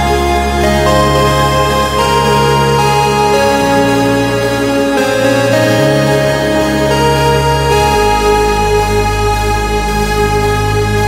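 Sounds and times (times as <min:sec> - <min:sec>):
sustained music chords: 0:00.0 - 0:11.0.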